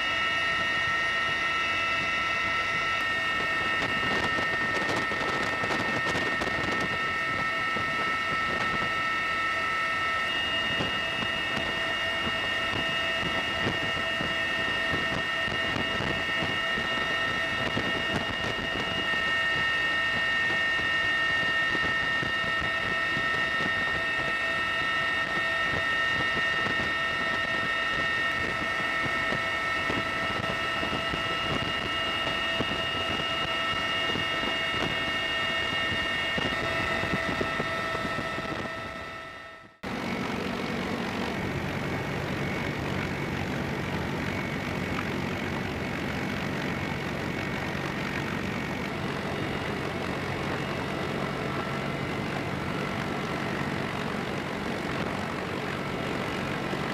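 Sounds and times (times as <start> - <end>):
aircraft engine drone: 0.0 - 56.9
high-pitched engine whines: 0.0 - 56.9.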